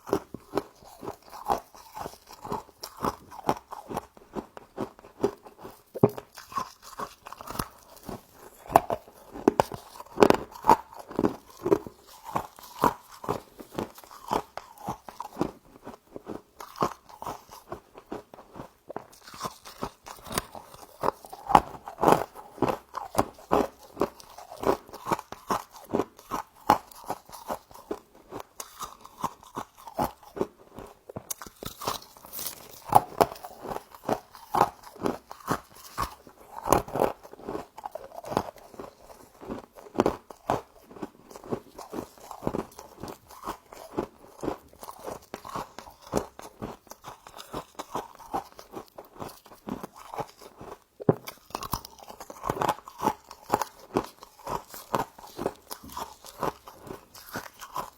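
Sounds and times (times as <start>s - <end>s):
crunching frost being chewed: 0.0s - 57.9s.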